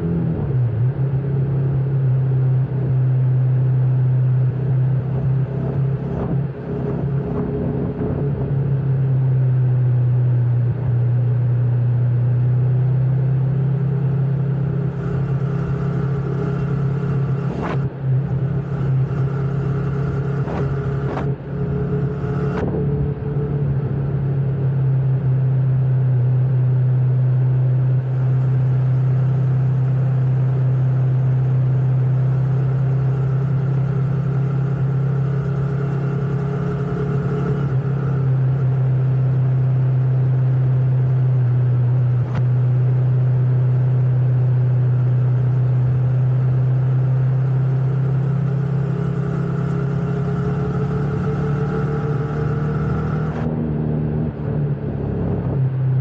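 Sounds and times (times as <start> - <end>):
road noise: 0.0 - 56.0
motorcycle engine running: 0.8 - 56.0.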